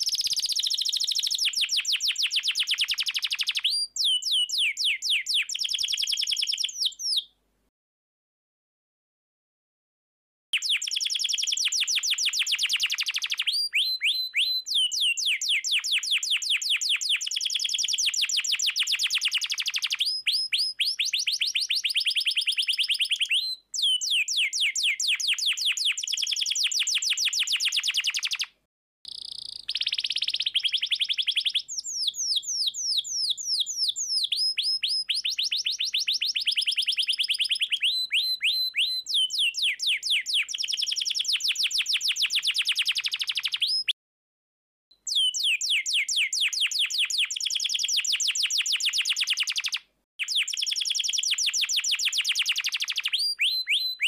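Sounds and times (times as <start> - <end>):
canary singing trills: 0.0 - 7.3, 10.6 - 28.5, 29.1 - 44.0, 45.1 - 54.0.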